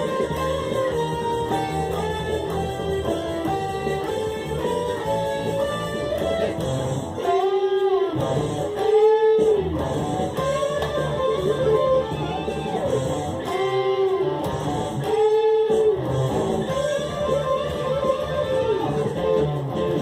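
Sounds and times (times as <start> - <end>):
bass line: 0.0 - 7.2, 8.2 - 8.8, 9.5 - 15.1, 15.9 - 20.0
rock electric guitar: 0.0 - 20.0.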